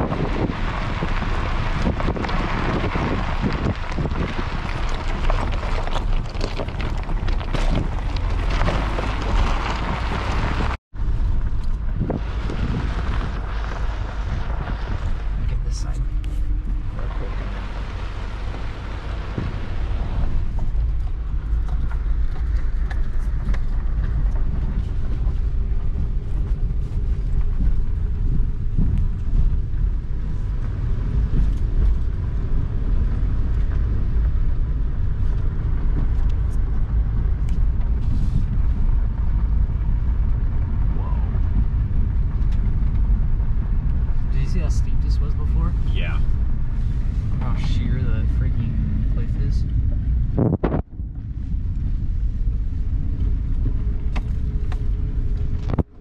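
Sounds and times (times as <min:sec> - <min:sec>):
car driving on gravel road: 0:00.0 - 0:56.0.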